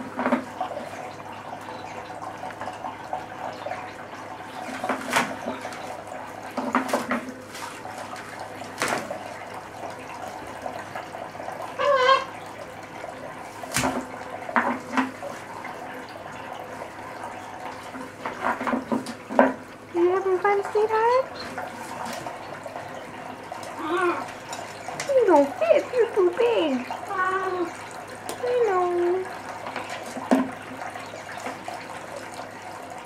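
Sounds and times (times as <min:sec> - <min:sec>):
fountain trickling: 0:00.0 - 0:33.0.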